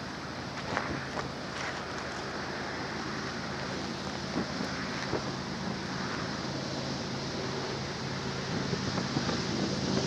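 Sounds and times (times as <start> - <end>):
wind noise on microphone: 0.0 - 2.4, 3.4 - 10.0
distant diesel locomotives droning: 0.0 - 10.0.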